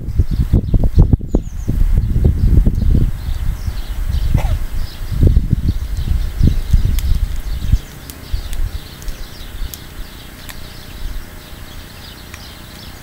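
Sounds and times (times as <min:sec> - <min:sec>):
small birds chirping: 0:00.0 - 0:13.0
wind buffeting microphone: 0:00.0 - 0:13.0.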